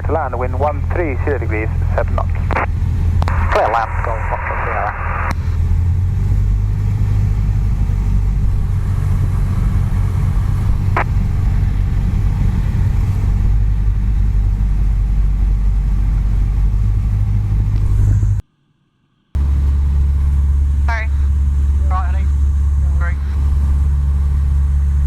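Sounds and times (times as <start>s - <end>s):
propeller plane engine drone: 0.0s - 18.4s, 19.4s - 25.0s.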